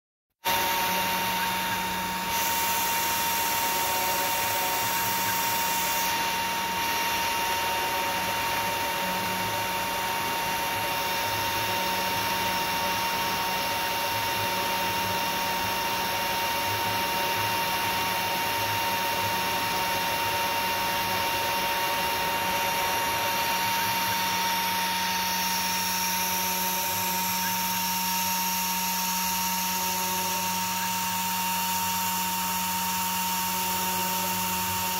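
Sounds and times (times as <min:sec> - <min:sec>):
spindle motor whine: 0:00.4 - 0:34.9.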